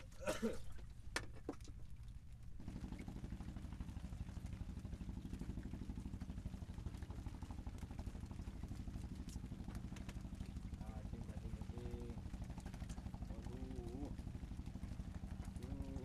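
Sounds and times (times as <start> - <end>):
small engine idling: 2.6 - 16.0.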